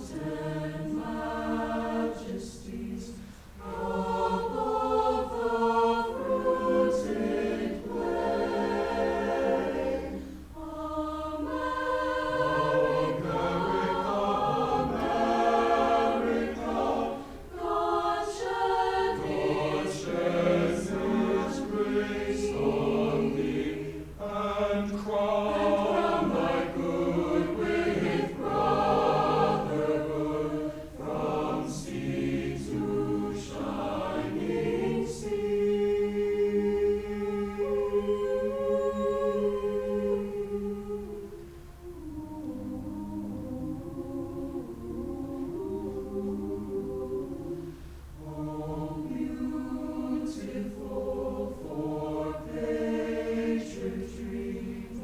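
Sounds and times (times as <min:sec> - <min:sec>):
choir singing: 0:00.0 - 0:55.0
low steady hum: 0:00.0 - 0:55.0.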